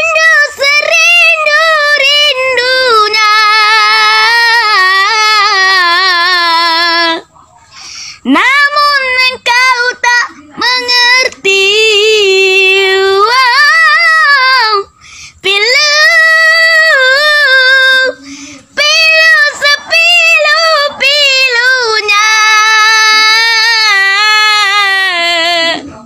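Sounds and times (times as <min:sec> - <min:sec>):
boy singing with vibrato: 0:00.0 - 0:07.3, 0:08.2 - 0:26.0.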